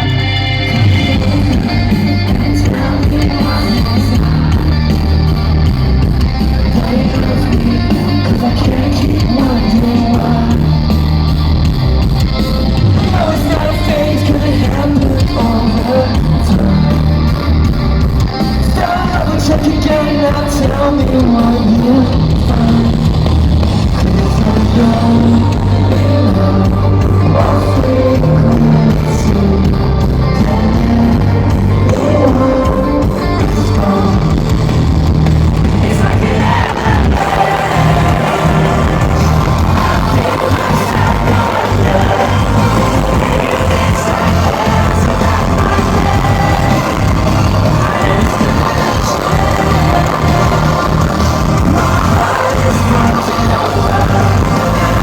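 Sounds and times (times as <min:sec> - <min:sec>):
person singing: 0:00.0 - 0:05.8, 0:06.5 - 0:11.3, 0:12.8 - 0:17.6, 0:18.4 - 0:23.2, 0:23.8 - 0:34.7, 0:35.6 - 0:55.0
live rock band playing: 0:00.0 - 0:55.0.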